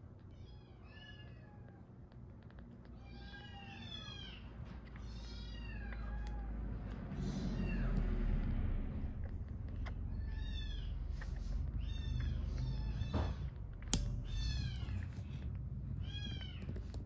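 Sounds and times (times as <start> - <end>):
small clicks: 1.2 - 17.0.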